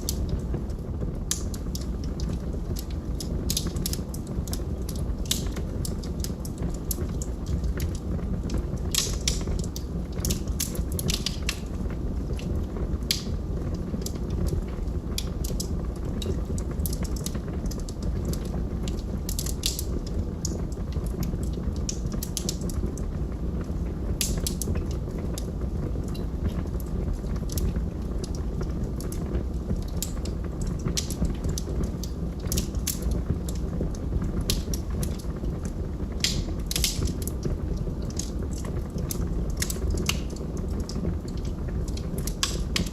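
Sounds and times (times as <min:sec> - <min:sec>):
log fire crackling and popping: 0:00.0 - 0:42.9
low rumble of burning: 0:00.0 - 0:42.9.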